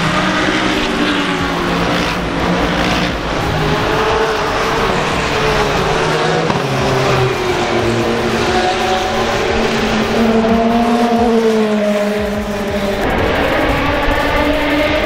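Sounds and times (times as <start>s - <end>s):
car engine accelerating: 0.0s - 15.0s
race car engines: 0.0s - 15.0s.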